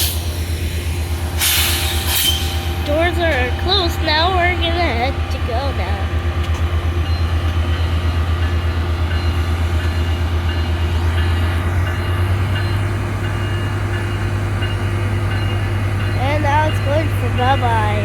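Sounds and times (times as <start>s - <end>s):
diesel locomotive engine throbbing: 0.0s - 18.0s.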